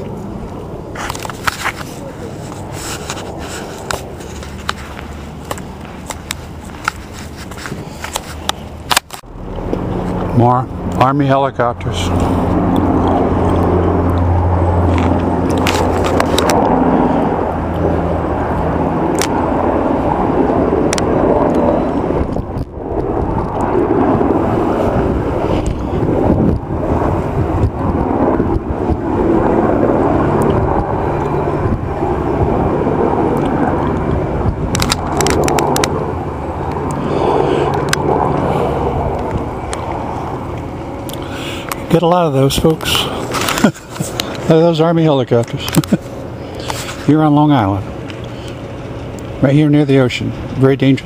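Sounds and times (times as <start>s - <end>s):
constant rushing noise: 0.0s - 51.0s
helicopter drone: 0.0s - 51.0s.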